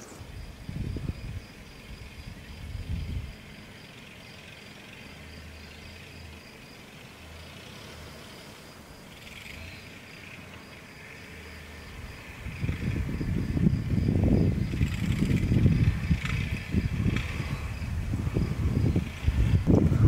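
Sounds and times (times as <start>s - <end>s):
faint low vehicle rumble: 0.0s - 20.0s
insects chirping: 0.0s - 20.0s.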